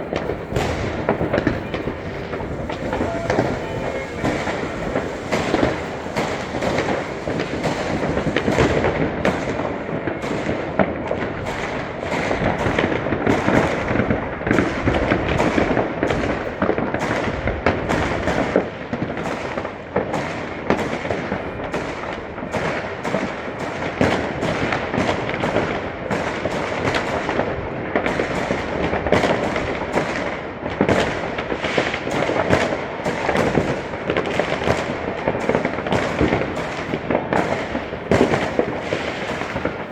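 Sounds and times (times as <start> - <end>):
firecracker crackle: 0.0 - 39.9
fireworks bangs: 0.0 - 39.9.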